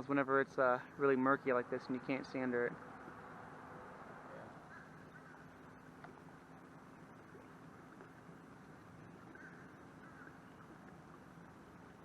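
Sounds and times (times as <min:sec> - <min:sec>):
low hum: 0:00.0 - 0:12.0
outdoor background hiss: 0:00.0 - 0:12.0.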